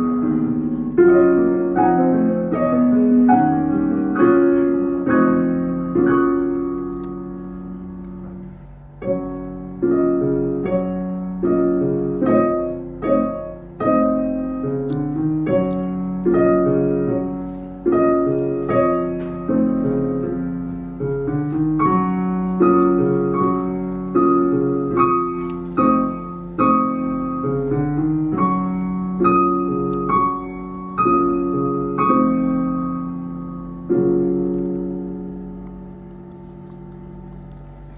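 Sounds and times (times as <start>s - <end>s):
piano duet: 0.0s - 37.9s.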